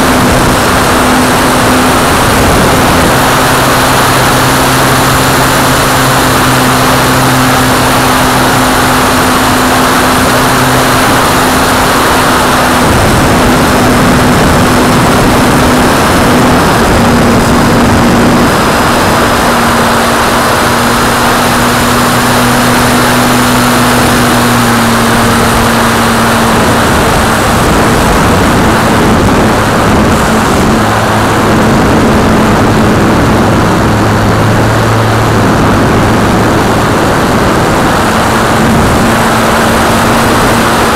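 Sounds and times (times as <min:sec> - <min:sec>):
electric motor and propeller hum: 0:00.0 - 0:40.9
wind rush on microphone: 0:00.0 - 0:40.9.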